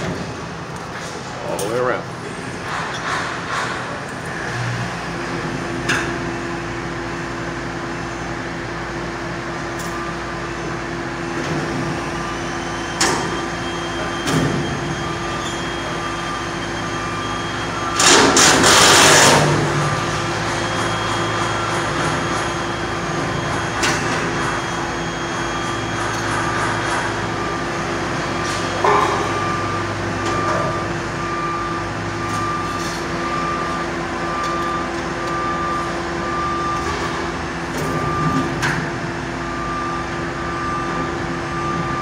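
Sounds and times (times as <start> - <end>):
machinery hum: 0.0 - 42.0.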